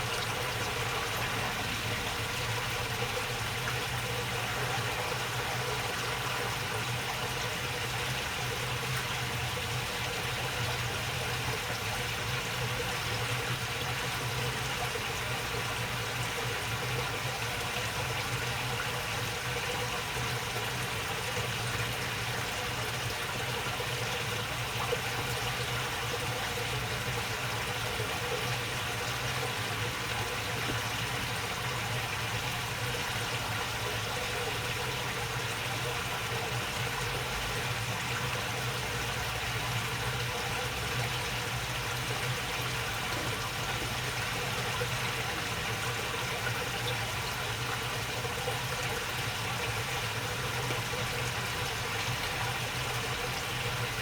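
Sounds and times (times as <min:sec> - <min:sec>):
water babbling in a channel: 0:00.0 - 0:54.0.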